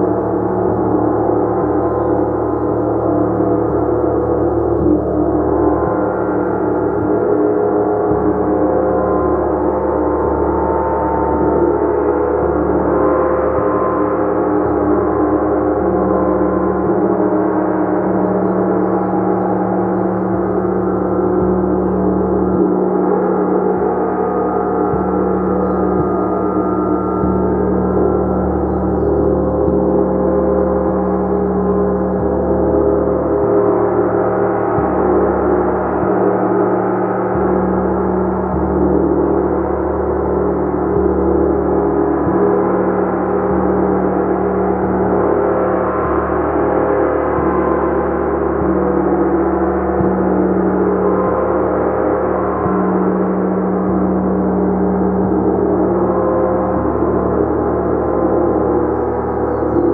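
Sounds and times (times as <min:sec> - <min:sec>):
gong played continuously: 0:00.0 - 0:59.9.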